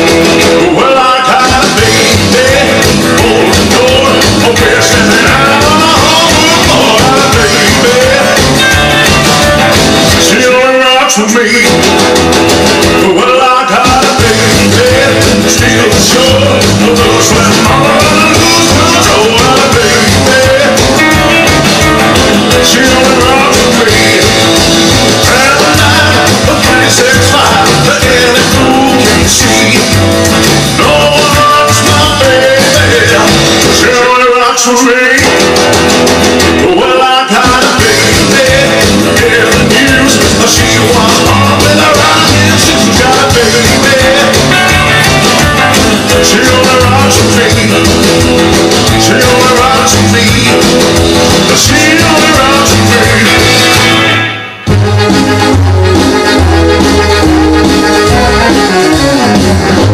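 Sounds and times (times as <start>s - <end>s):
rock and roll band with singing: 0.0s - 59.9s.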